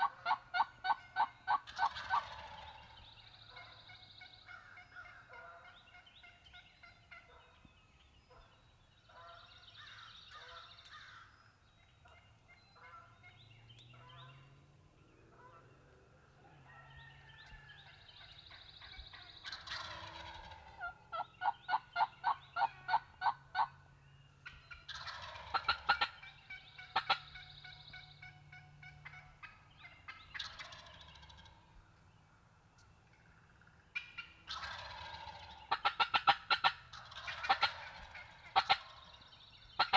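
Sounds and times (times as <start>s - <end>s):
loud turkey yelps: 0.0s - 7.7s, 8.3s - 11.4s, 12.0s - 14.3s, 16.6s - 23.8s, 24.4s - 31.8s, 33.6s - 39.9s
turkeys gobbling: 0.0s - 7.7s, 9.1s - 11.4s, 12.0s - 14.3s, 15.3s - 23.8s, 24.4s - 32.4s, 33.0s - 39.9s.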